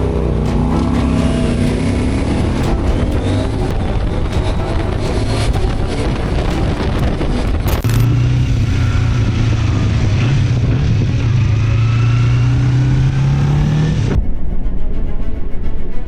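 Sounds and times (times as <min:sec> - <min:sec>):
motorcycle engine accelerating: 0:00.0 - 0:14.2
wind and road noise: 0:00.0 - 0:16.0.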